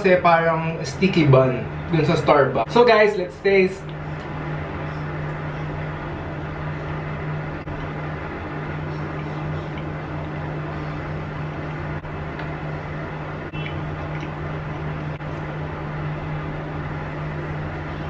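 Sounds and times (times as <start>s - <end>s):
machine hum with hiss: 0.0s - 18.0s.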